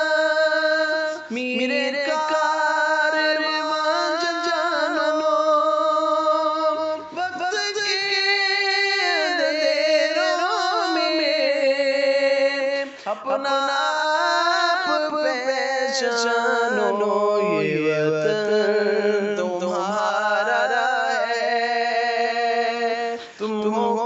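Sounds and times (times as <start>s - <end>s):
person singing: 0.0s - 24.0s.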